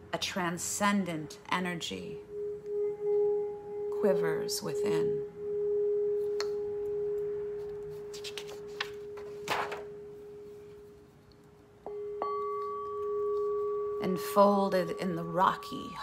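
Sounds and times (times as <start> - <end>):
singing bowl ringing: 2.0 - 11.0, 11.9 - 16.0.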